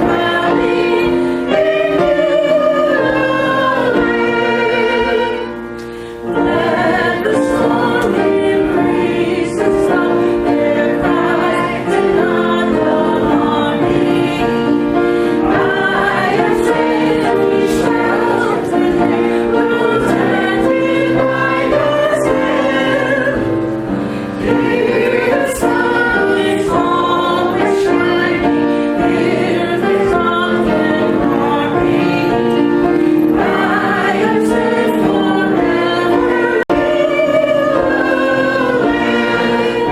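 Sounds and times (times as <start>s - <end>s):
choir and congregation singing hymn: 0.0s - 39.9s
sustained instrumental accompaniment: 0.0s - 39.9s.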